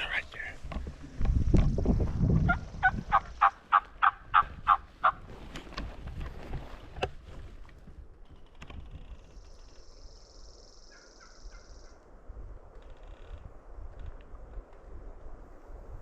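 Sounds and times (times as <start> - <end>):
wind rumbling on microphone: 0.0 - 10.2, 11.5 - 16.0.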